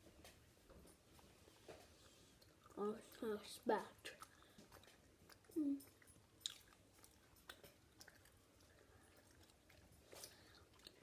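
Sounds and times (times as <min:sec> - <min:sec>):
mouth chewing candy: 0:01.9 - 0:11.0.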